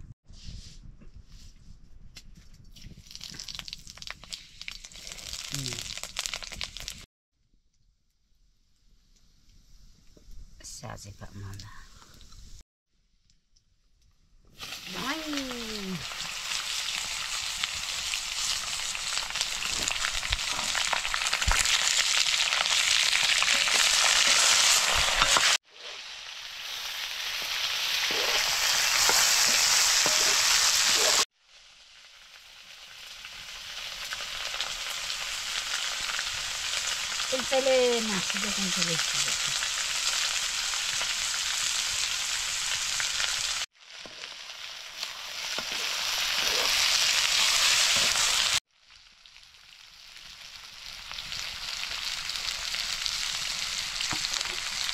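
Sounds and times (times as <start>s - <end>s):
food sizzling in a wok: 3.3s - 7.1s, 14.5s - 54.9s.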